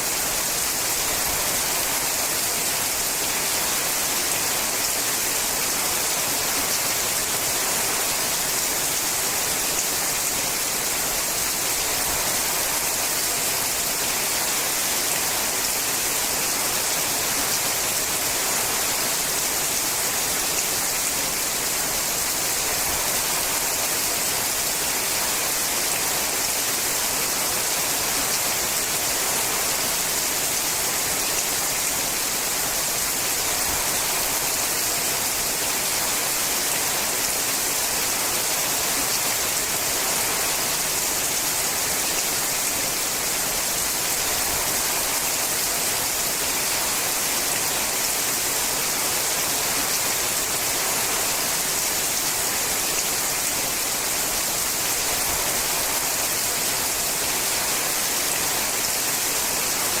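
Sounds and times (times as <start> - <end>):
rain on a metal roof: 0.0 - 60.0.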